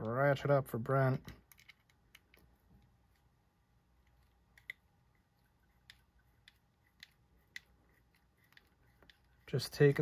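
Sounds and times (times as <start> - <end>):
faint sharp clicks of metal parts: 1.1 - 3.3, 4.0 - 10.0.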